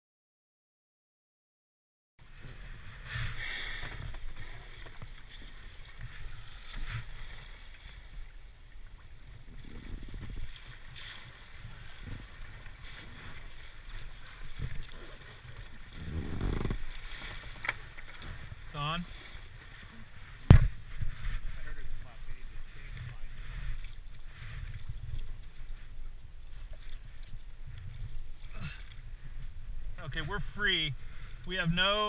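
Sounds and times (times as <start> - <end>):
water splashing against boat: 2.2 - 32.0.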